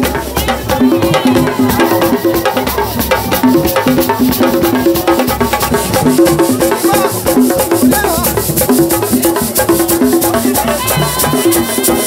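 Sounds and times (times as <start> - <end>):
music with fast percussion beat: 0.0 - 12.0.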